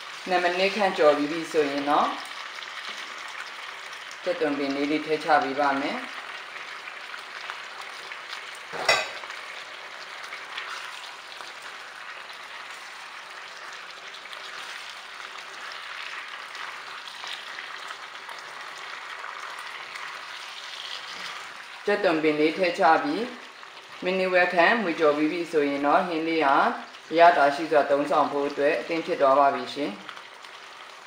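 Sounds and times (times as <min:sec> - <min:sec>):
meat and vegetables sizzling in wok: 0:00.0 - 0:31.0.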